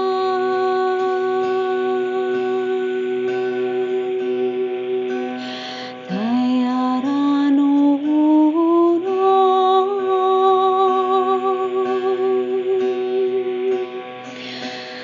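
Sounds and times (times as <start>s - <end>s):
string instrument drone: 0.0s - 15.0s
woman singing wordless tone: 0.0s - 15.0s.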